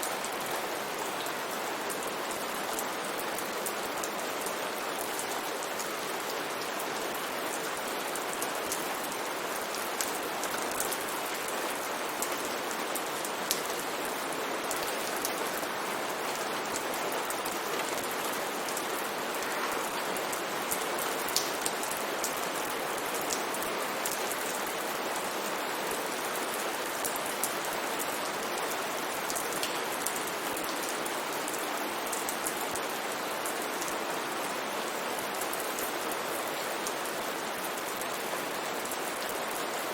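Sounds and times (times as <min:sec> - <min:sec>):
raindrops ticking on a surface: 0:00.0 - 0:34.0.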